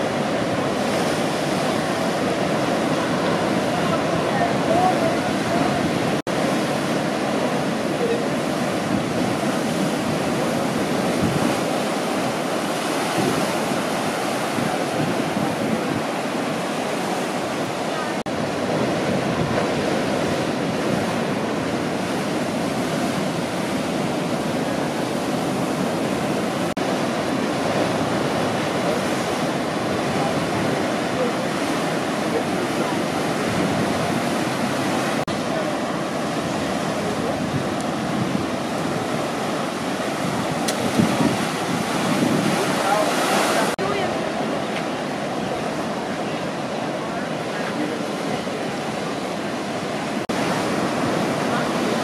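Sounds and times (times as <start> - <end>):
ocean waves breaking: 0.0 - 52.0.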